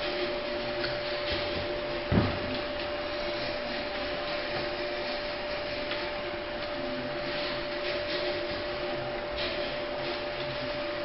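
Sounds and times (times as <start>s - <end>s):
constant high hum: 0.0s - 11.0s.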